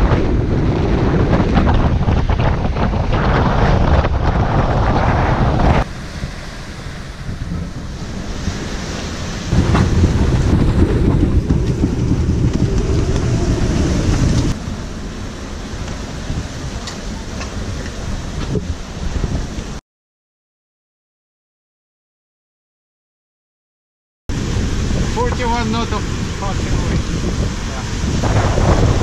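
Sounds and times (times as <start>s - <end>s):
water rushing around hull: 0.0s - 19.8s, 24.3s - 29.0s
wind buffeting microphone: 0.0s - 19.8s, 24.3s - 29.0s.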